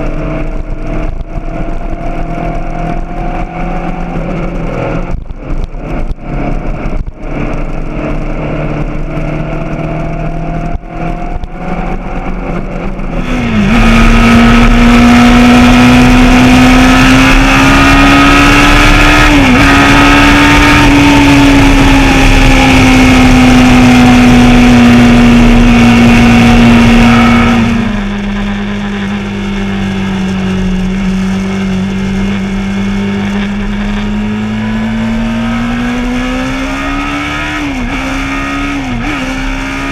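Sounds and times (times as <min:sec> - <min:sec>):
motorcycle engine revving: 0:00.0 - 0:39.9
rushing wind noise: 0:00.0 - 0:39.9.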